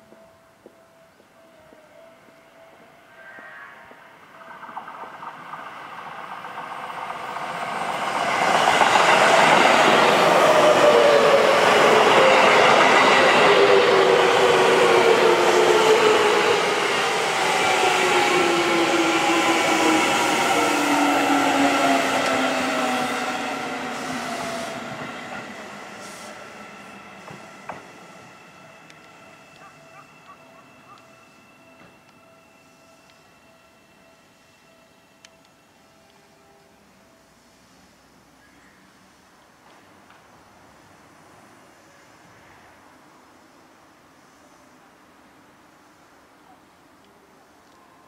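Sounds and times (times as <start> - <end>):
electric train passing: 0.0 - 48.0.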